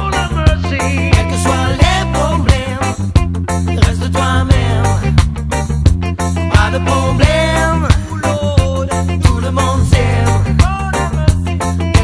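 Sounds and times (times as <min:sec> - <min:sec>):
person singing: 0:00.0 - 0:03.1, 0:03.7 - 0:05.2, 0:06.4 - 0:12.0
bass line: 0:00.0 - 0:12.0
reggae song: 0:00.0 - 0:12.0
drum beat: 0:01.2 - 0:12.0.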